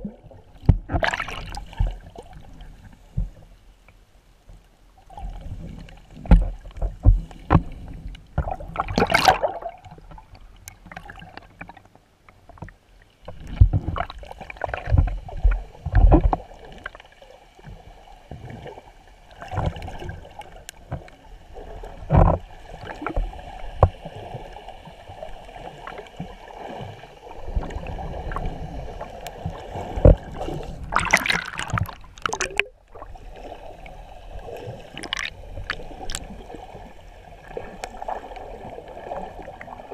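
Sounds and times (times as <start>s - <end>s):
muffled underwater water sloshing: 0.0s - 39.9s.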